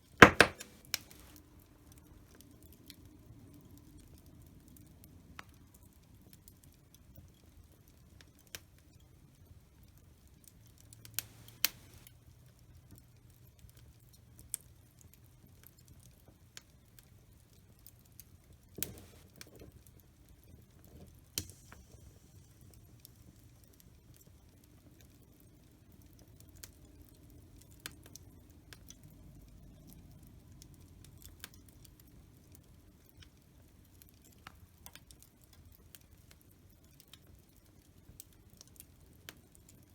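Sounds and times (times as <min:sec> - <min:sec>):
wood fire crackling: 0:00.0 - 0:39.9
low rumble of flames: 0:00.9 - 0:39.9.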